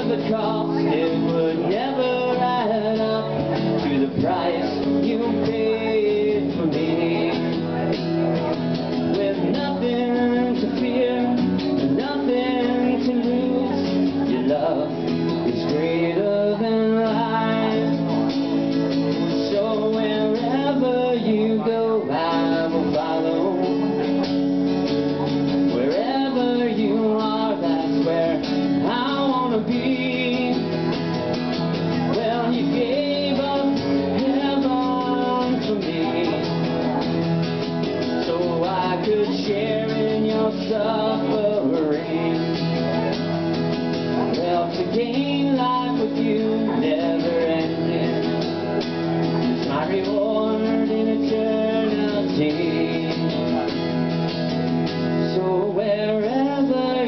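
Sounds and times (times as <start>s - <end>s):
acoustic guitar strumming: 0.0s - 57.0s
man singing into a microphone: 0.0s - 57.0s.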